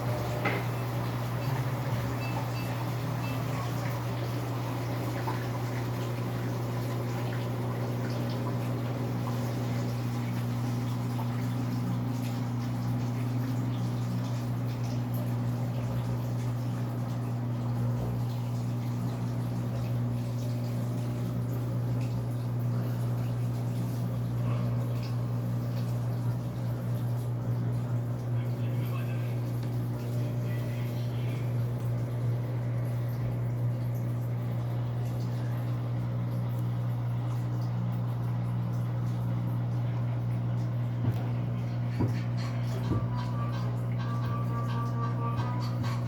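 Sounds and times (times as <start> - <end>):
water running into washing machine: 0.0 - 46.0.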